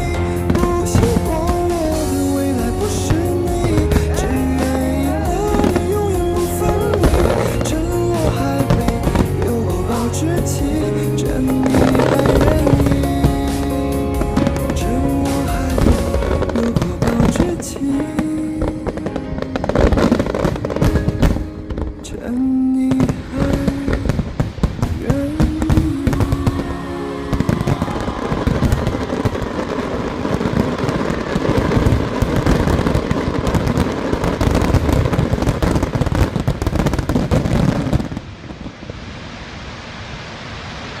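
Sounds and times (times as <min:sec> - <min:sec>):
music playing: 0:00.0 - 0:36.9
fireworks crackling and banging: 0:00.0 - 0:41.0
steady hiss: 0:00.0 - 0:41.0.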